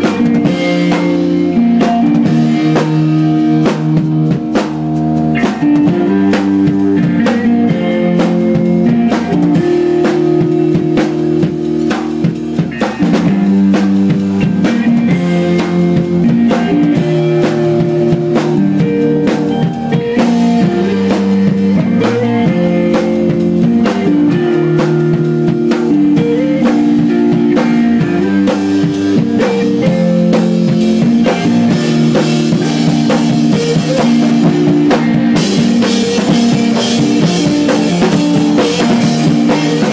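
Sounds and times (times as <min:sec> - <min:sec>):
busy drum kit: 0:00.0 - 0:39.9
repeating guitar lines: 0:00.0 - 0:39.9.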